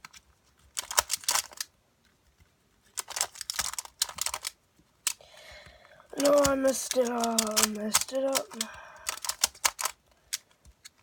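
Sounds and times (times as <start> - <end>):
plastic puzzle cube clicking: 0.0 - 1.7, 2.9 - 11.0.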